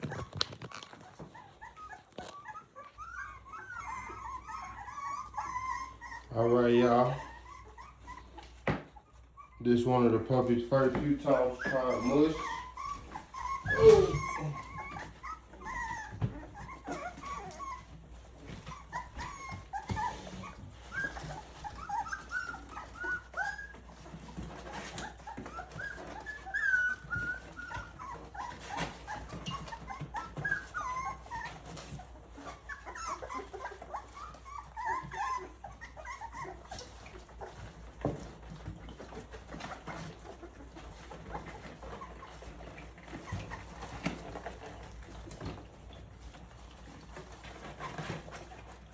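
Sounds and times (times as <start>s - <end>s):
puppies whimpering and squealing: 0.0s - 48.9s.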